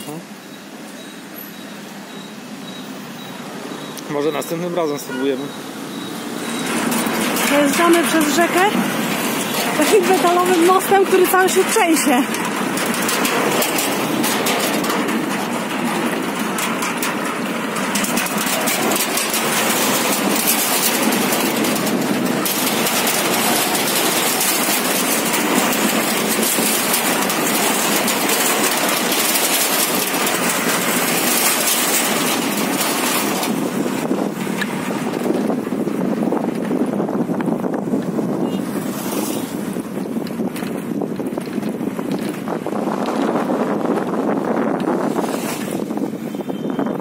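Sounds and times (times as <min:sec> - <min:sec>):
bicycles rattling over metal bridge: 0:00.1 - 0:47.0.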